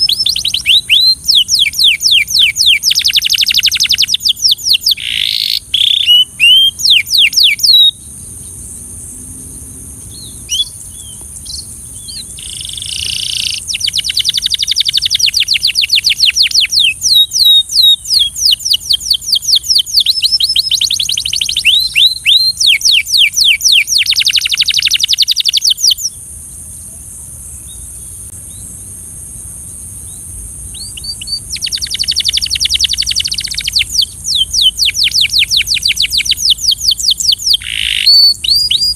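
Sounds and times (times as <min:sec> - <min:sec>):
canary singing trills: 0:00.0 - 0:08.8, 0:10.0 - 0:26.2, 0:30.0 - 0:38.9
steady high hiss: 0:00.0 - 0:38.9.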